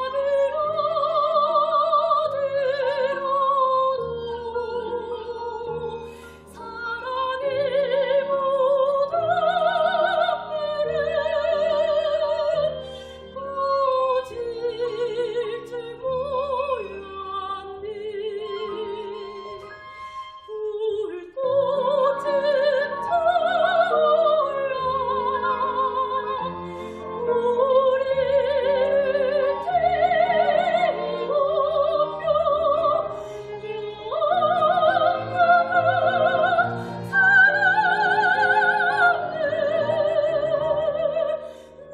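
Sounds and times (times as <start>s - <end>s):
piano: 0.0s - 41.9s
soprano singing with vibrato: 0.0s - 41.9s
violin: 0.0s - 41.9s.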